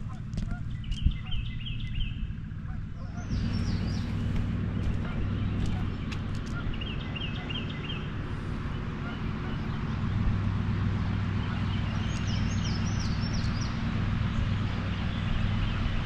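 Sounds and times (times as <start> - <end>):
bird chirping: 0.0 - 10.2, 11.3 - 16.0
steady low rumble: 0.0 - 16.0.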